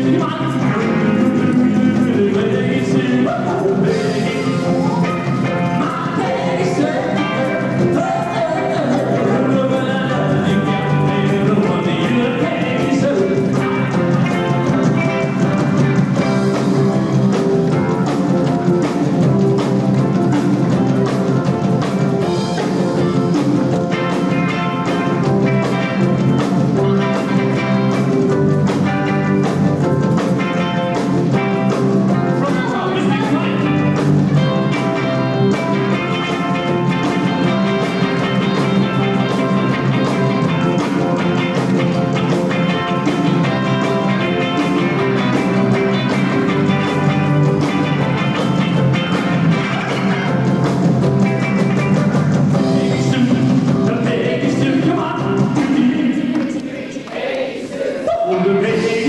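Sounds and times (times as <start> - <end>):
electric guitar: 0.0 - 56.8
drum kit: 0.0 - 57.3, 57.9 - 59.0
live rock band: 0.0 - 59.0.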